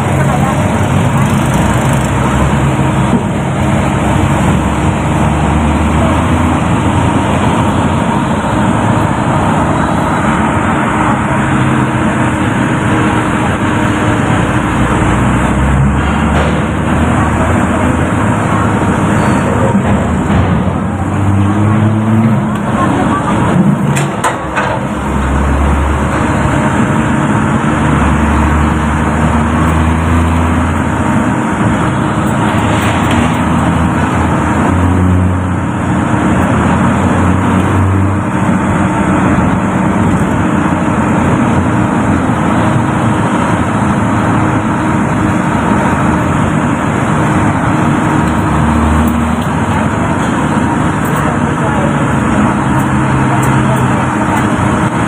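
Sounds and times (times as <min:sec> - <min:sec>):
car engine hum and road rumble: 0:00.0 - 0:55.0.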